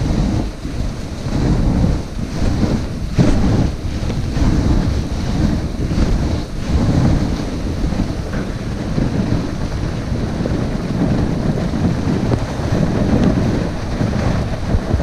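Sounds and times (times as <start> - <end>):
sled runners sliding over snow: 0.0 - 15.0
wind buffeting microphone: 0.0 - 15.0.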